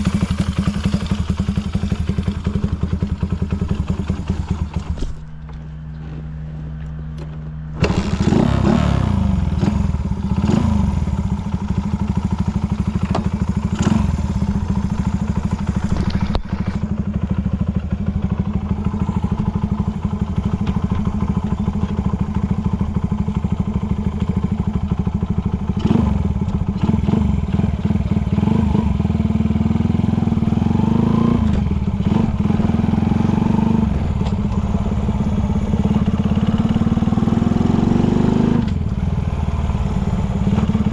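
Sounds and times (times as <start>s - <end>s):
four-stroke motorcycle engine running: 0.0s - 40.9s.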